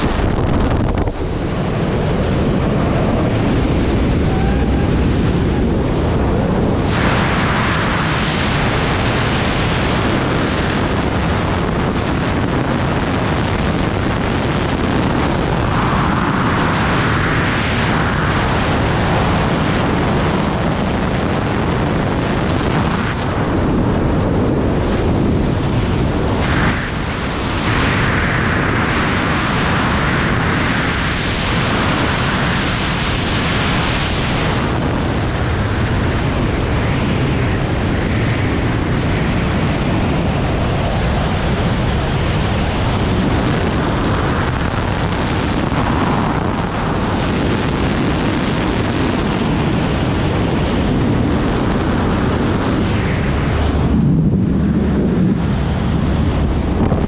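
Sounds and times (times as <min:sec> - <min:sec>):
freefall wind rushing: 0:00.0 - 0:57.0.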